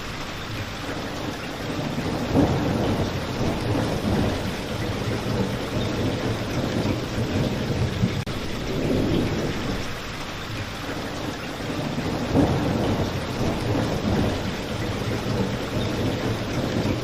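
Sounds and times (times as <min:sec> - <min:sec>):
heavy rain: 0:00.0 - 0:17.0
low thunder rumbling: 0:01.5 - 0:10.2, 0:11.2 - 0:17.0.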